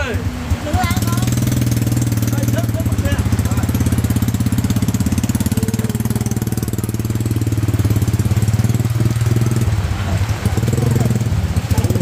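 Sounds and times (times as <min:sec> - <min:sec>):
motorbike engine puttering: 0:00.2 - 0:12.0.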